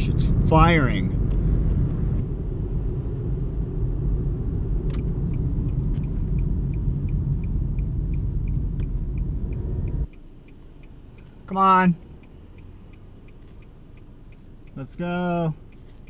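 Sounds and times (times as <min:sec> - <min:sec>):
car road and engine rumble: 0:00.0 - 0:16.0
faint regular ticking: 0:00.0 - 0:16.0.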